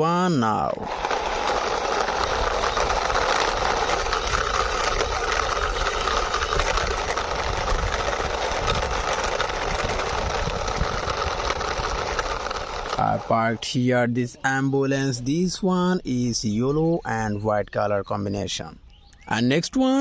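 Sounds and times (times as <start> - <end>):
toy car rattling whir: 0.0 - 17.4, 19.1 - 20.0.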